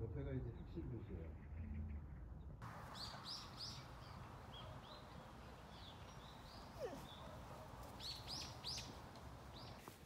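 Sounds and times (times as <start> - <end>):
birds chirping faintly: 0.5 - 9.9.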